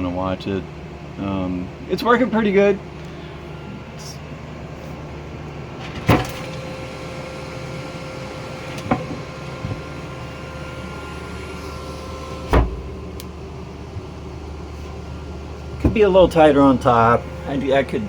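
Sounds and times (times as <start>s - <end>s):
computer fans humming: 0.0s - 18.0s.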